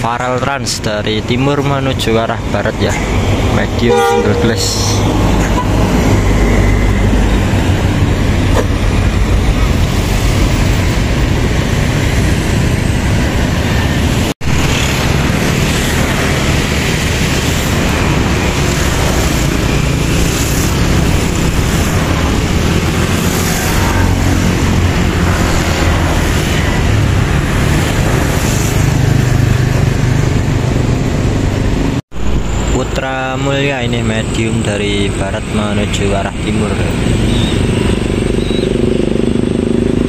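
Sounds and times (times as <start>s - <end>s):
road and tyre noise: 0.0s - 40.0s
bus diesel engine running: 2.9s - 40.0s.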